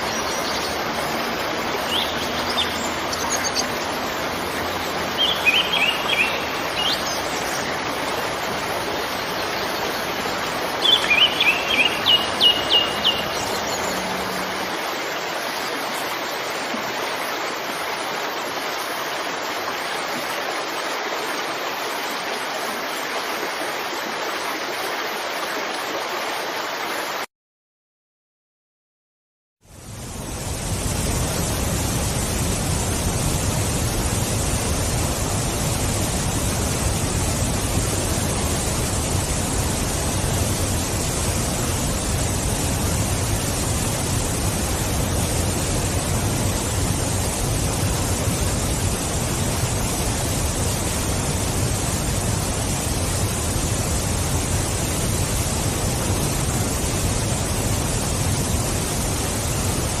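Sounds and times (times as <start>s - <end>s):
waterfall rushing: 0.0s - 27.3s, 29.7s - 60.0s.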